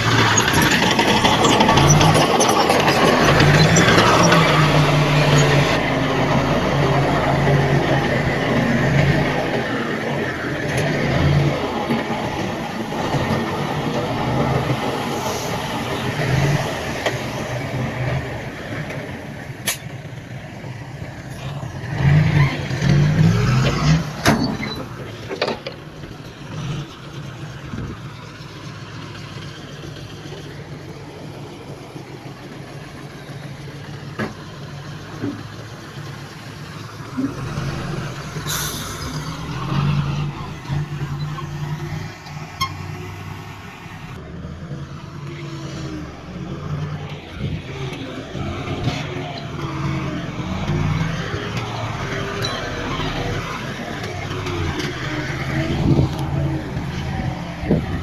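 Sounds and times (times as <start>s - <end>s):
diesel earthmoving machinery: 0.0s - 58.0s.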